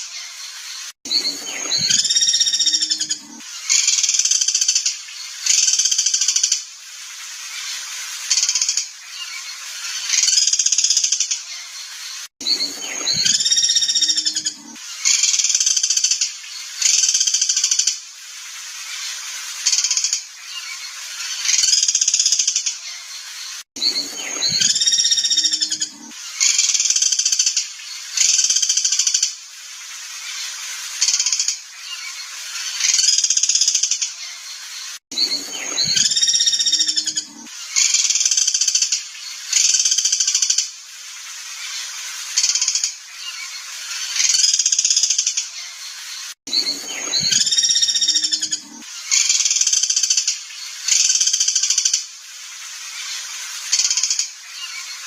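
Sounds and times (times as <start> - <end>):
songbird whistled song: 0.0 - 6.5, 7.6 - 17.8, 19.7 - 29.2, 30.3 - 40.5, 41.6 - 52.0.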